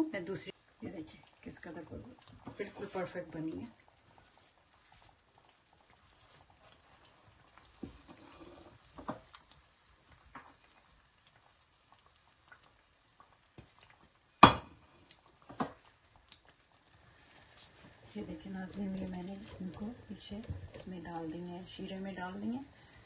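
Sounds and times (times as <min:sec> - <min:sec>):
food frying in oil: 0:00.0 - 0:23.0.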